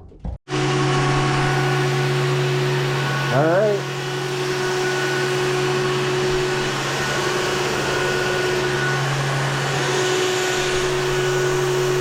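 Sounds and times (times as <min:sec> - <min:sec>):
electric pump humming and whining: 0:00.5 - 0:12.0.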